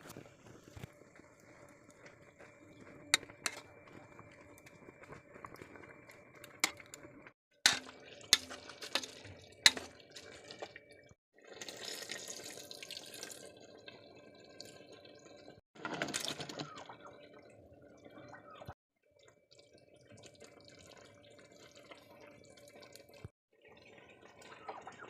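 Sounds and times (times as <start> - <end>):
liquid pouring and dripping: 0.8 - 17.4, 19.0 - 25.0.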